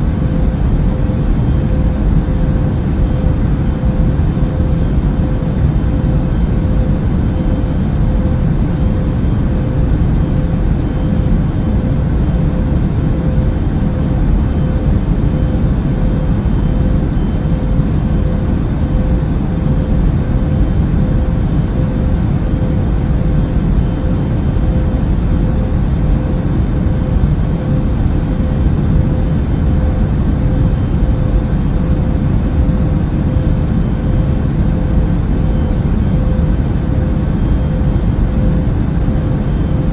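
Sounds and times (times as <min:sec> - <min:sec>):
engine and airflow rush: 0:00.0 - 0:39.9
faint constant hum: 0:00.0 - 0:39.9.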